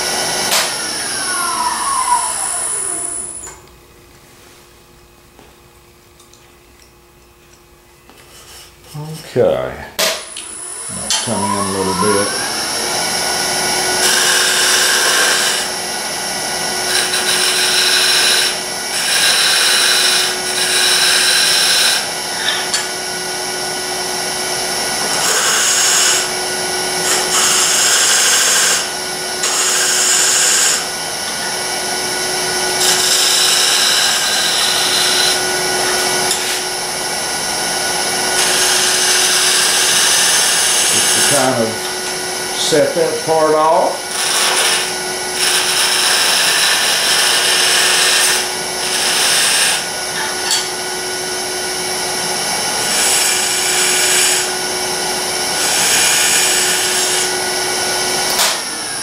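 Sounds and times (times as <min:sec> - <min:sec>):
turning tool cutting wood: 0:00.0 - 0:03.6, 0:10.3 - 0:50.7, 0:52.1 - 0:58.8
wood lathe motor hum: 0:00.0 - 0:03.7, 0:10.3 - 0:59.0.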